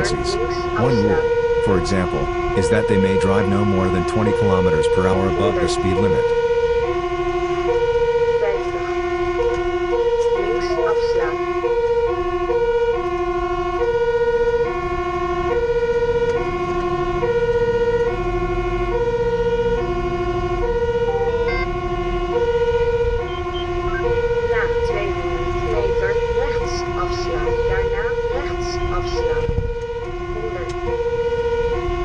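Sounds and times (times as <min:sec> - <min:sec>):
truck engine and road noise: 0:00.0 - 0:32.0
two-tone siren: 0:00.0 - 0:32.0.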